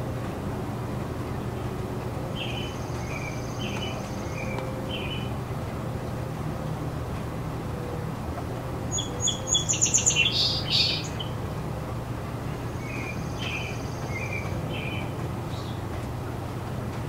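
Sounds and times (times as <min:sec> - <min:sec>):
songbird singing: 0:01.2 - 0:16.1.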